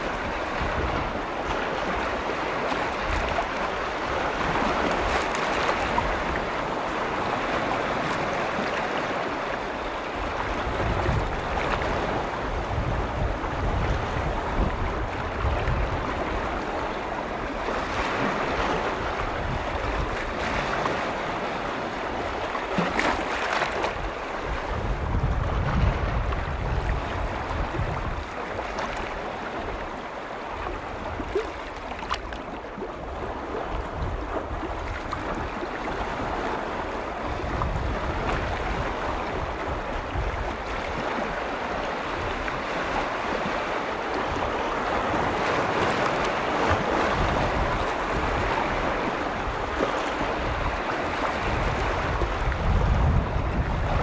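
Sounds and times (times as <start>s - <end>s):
wind buffeting microphone: 0.0s - 31.8s, 32.6s - 54.0s
waves washing on shore: 0.0s - 54.0s.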